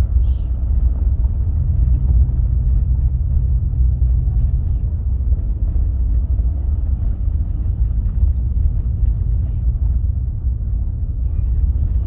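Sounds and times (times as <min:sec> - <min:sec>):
tyres on gravel and engine rumble: 0:00.0 - 0:12.0.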